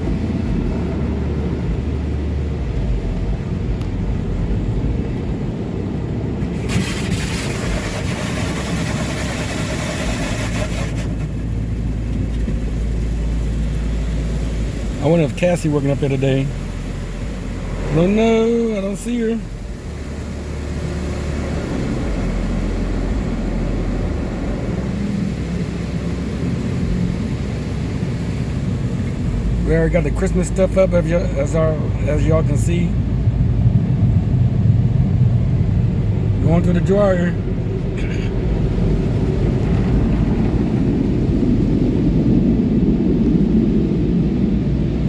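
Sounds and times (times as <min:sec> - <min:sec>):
car wash machinery rumbling: 0:00.0 - 0:45.0.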